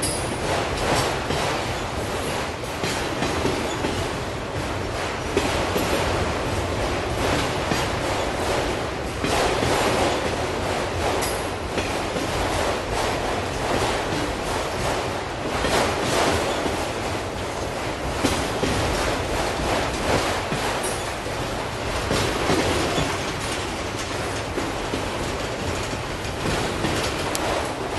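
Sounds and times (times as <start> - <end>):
train wheels rumbling on rails: 0.0 - 27.9
wheels clicking over rail joints: 0.0 - 27.9.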